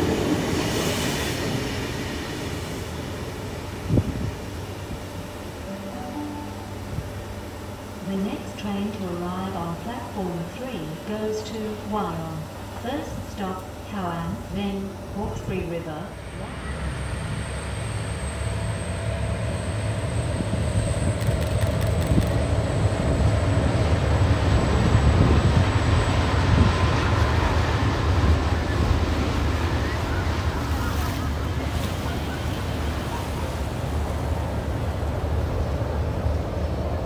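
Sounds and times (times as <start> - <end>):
electric train rumbling over bridge: 0.0 - 37.0.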